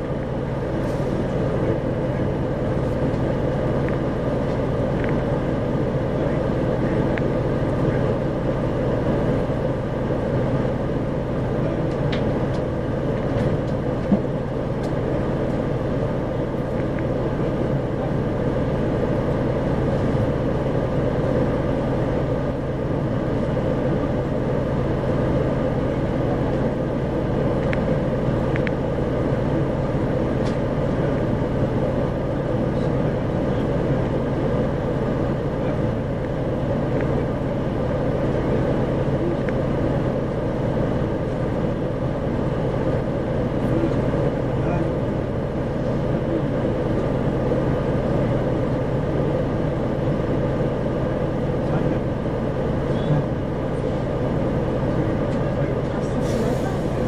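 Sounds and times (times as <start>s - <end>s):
bus diesel engine hum: 0.0s - 57.0s
road noise: 0.0s - 57.0s.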